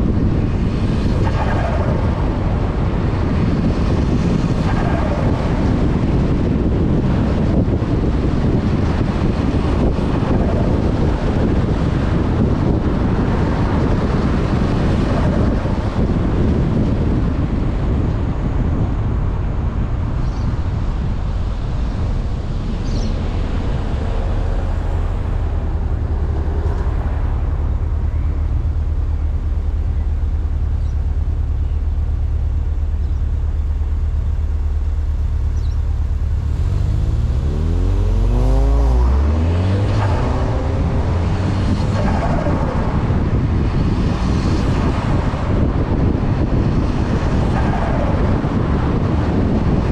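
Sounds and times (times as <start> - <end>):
car engine driving: 0.0 - 49.9
road noise: 0.0 - 49.9.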